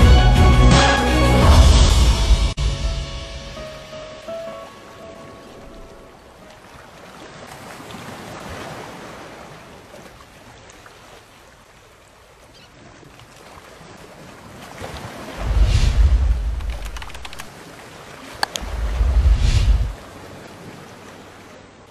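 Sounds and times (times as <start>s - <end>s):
sea waves washing: 0.0s - 12.0s, 13.2s - 21.8s.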